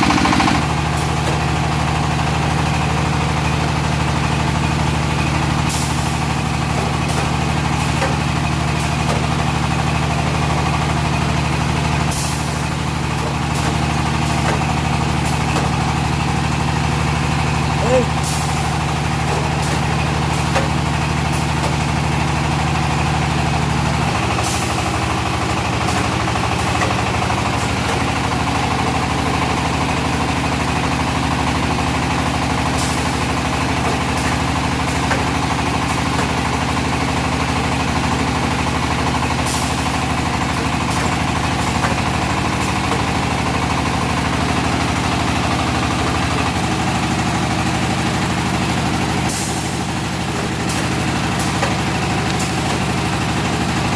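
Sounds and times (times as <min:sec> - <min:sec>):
brick machine droning: 0:00.0 - 0:53.9.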